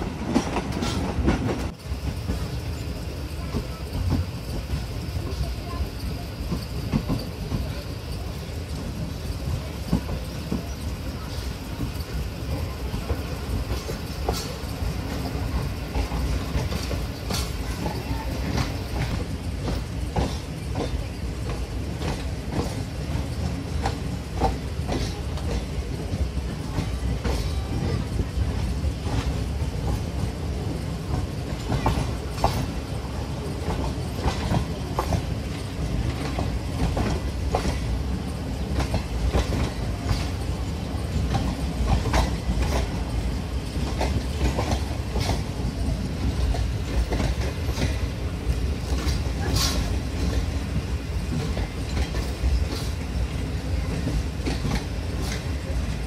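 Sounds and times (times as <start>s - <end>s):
train rumbling on track: 0.0s - 56.0s
wheels clacking over rails: 0.0s - 56.0s.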